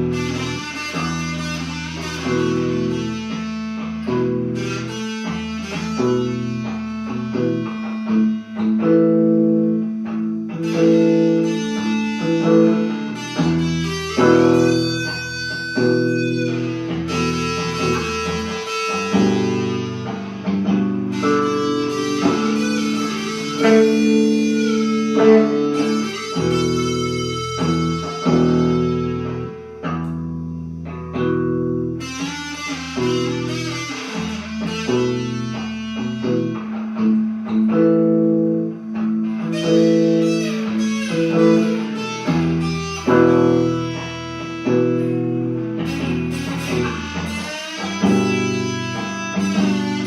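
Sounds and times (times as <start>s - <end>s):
blues guitar: 0.0s - 50.0s.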